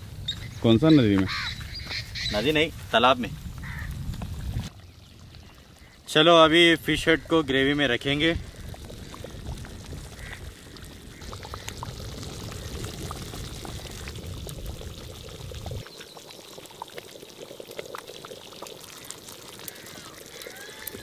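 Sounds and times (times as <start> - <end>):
gravy bubbling and popping: 2.6 - 21.0.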